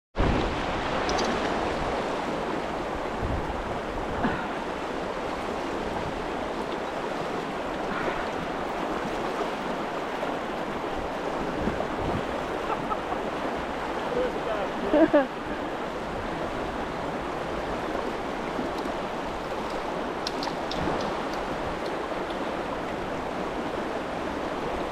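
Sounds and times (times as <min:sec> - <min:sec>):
river flowing: 0:00.2 - 0:24.9.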